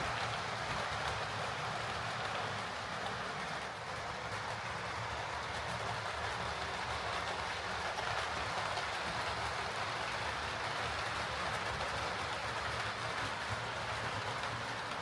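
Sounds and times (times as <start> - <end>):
model locomotive motor humming: 0.0 - 15.0
wheels rolling on track: 0.0 - 15.0.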